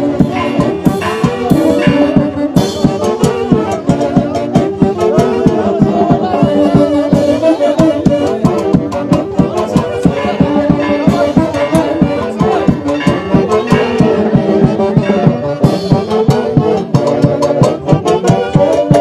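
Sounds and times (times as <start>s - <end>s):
brass band music: 0.0s - 19.0s.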